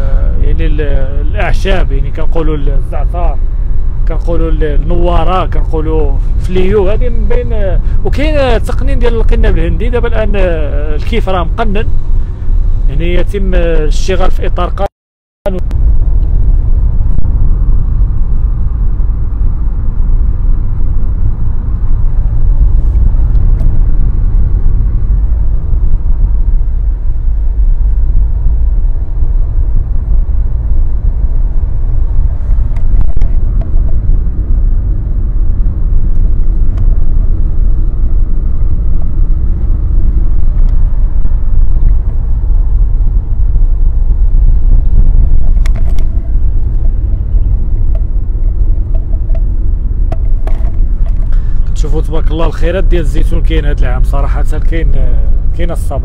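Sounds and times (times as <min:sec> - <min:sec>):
loud low rumble: 0:00.0 - 0:14.9, 0:15.5 - 0:56.0.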